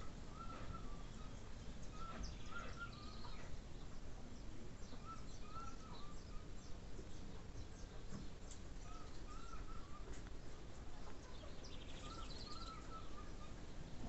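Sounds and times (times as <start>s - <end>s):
faint high bird chirps: 0.0s - 3.6s, 4.4s - 10.3s, 11.0s - 14.0s
birds calling: 0.0s - 14.0s
low background hum: 0.0s - 14.0s.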